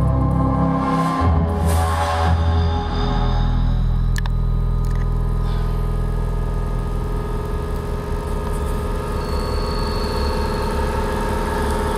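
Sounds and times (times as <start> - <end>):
fast pulsing rumble: 0.0 - 11.9
low droning hum: 0.0 - 11.9.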